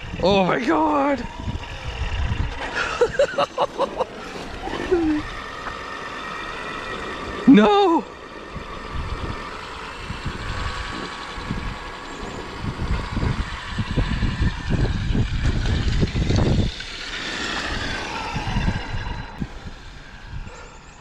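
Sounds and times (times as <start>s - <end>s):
low rumbling: 0.0s - 21.0s
rc truck electric motor whine: 0.0s - 21.0s.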